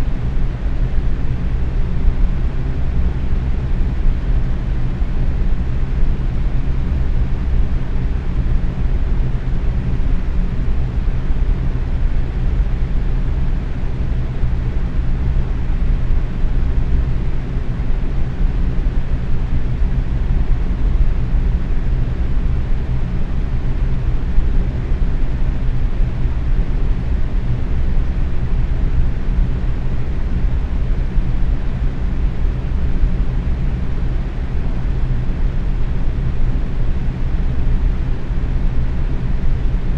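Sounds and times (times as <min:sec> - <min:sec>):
faint fan motor hum: 0:00.0 - 0:39.9.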